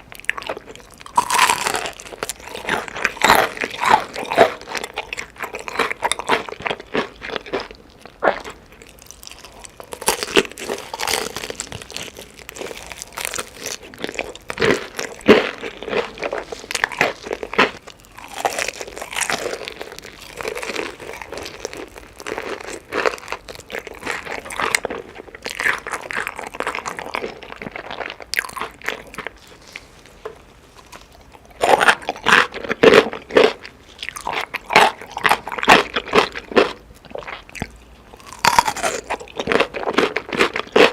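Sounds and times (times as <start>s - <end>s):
wet chewing: 0.1s - 30.0s, 30.8s - 40.9s
crunching bites of chicken: 0.2s - 29.8s, 30.9s - 40.9s.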